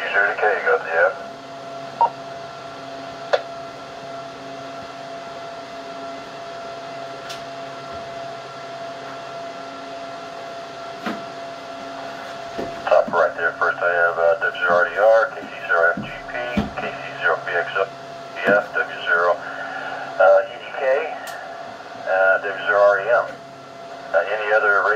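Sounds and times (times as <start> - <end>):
radio hum with whine and hiss: 0.0 - 24.9.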